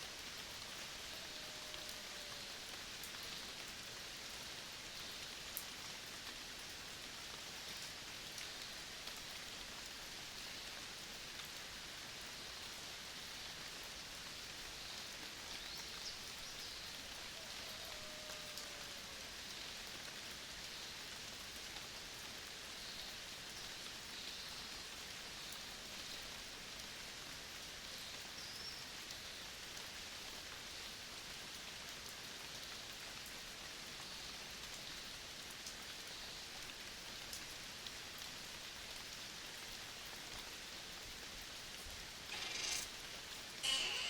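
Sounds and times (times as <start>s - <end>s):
outdoor ambient hiss: 0.0s - 44.0s
rustle: 0.0s - 44.0s.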